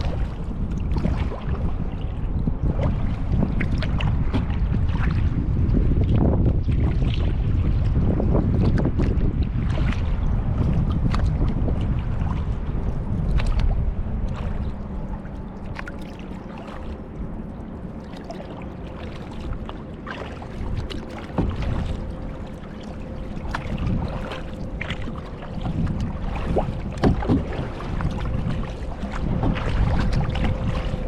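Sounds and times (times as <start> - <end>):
paddle splashing water: 0.0 - 31.0
water lapping at hull: 0.0 - 31.0
wind rumble on microphone: 0.0 - 31.0.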